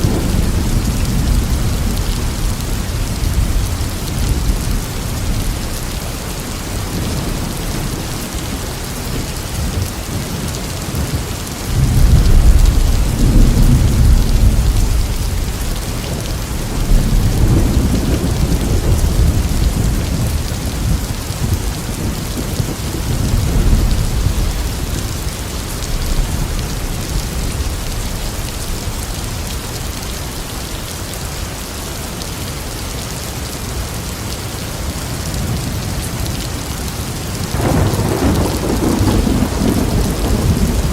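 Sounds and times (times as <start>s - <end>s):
thunder rumbling: 0.0s - 30.9s, 35.2s - 40.9s
heavy rain hissing: 0.0s - 40.9s.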